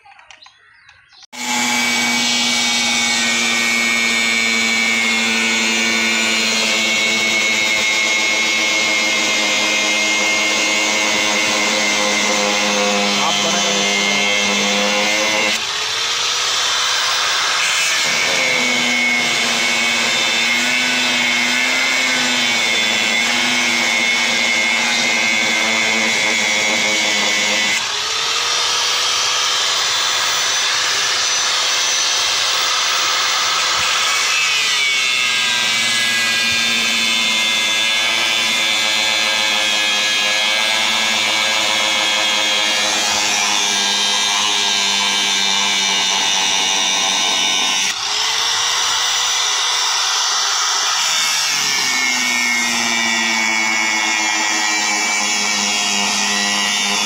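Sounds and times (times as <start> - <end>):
angle grinder cutting metal: 0.3 - 57.0.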